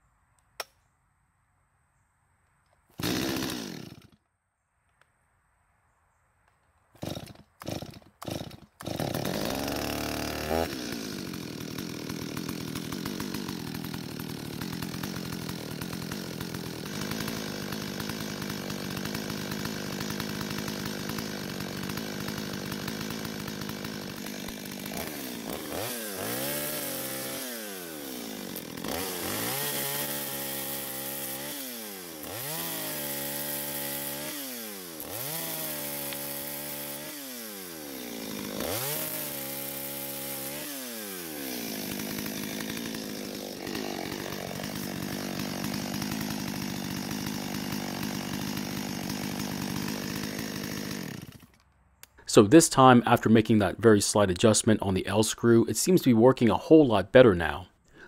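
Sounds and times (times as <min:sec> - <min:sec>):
chainsaw engine idling and revving: 0:02.9 - 0:04.2, 0:06.9 - 0:52.5.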